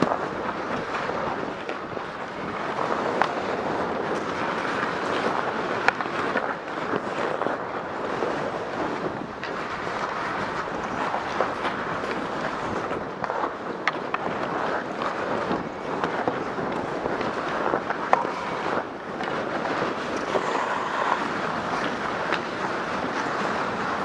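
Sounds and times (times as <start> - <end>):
hockey sticks and pucks clicking: 0.0 - 24.0
skate blades scraping on ice: 0.0 - 24.0
wind on microphone: 0.0 - 24.0.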